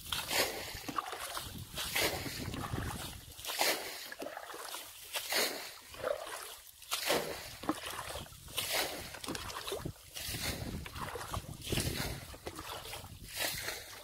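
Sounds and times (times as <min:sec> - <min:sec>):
bucket scooping water: 0:00.0 - 0:14.0.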